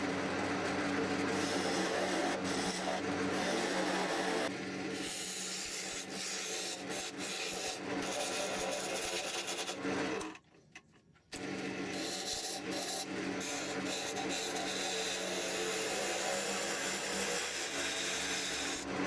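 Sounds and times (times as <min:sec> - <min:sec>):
wood lathe tool cutting wood: 0:00.0 - 0:10.4, 0:11.4 - 0:19.0.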